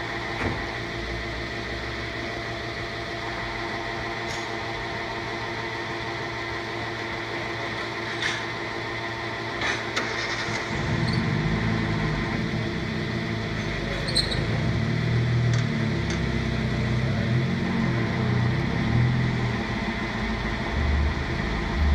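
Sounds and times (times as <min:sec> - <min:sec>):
vehicle engine rumble: 0:00.0 - 0:21.9.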